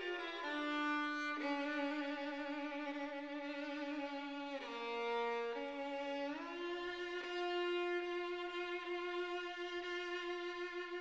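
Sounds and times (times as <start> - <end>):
solo violin slow melody: 0.0 - 11.0.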